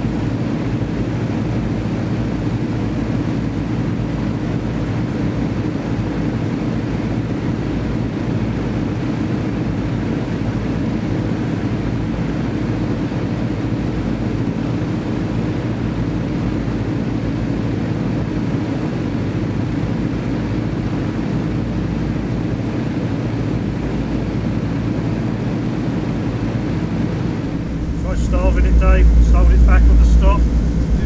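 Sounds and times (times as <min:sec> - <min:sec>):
aircraft piston engines running: 0:00.0 - 0:31.0.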